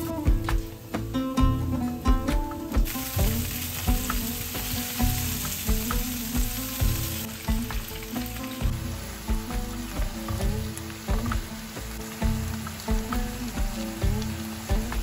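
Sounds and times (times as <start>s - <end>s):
background music: 0.0s - 15.0s
vegetables sizzling in hot oil: 2.8s - 15.0s.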